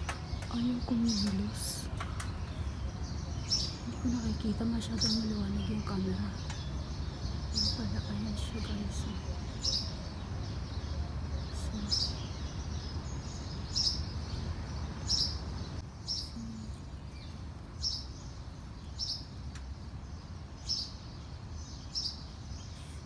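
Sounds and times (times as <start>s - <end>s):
low background rumble: 0.0s - 23.0s
small bird chirping: 0.0s - 23.0s.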